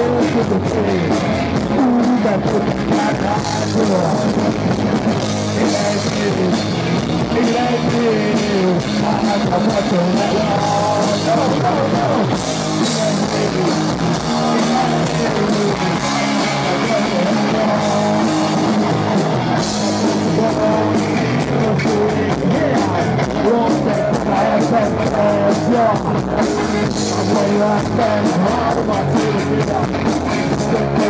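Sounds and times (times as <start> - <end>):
drum kit: 0.0 - 31.0
electric bass: 0.0 - 31.0
electric guitars: 0.0 - 31.0.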